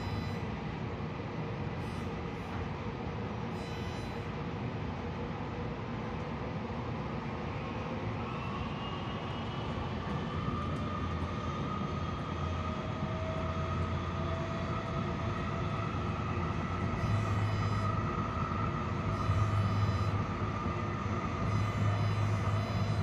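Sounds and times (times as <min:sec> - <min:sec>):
faint train whine: 0:00.0 - 0:23.0.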